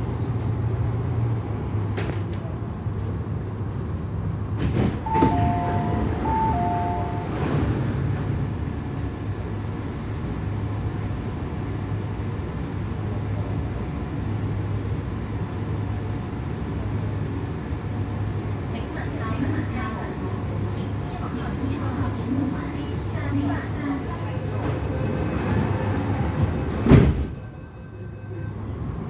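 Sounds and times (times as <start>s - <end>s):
train car hum and rumble: 0.0s - 29.0s.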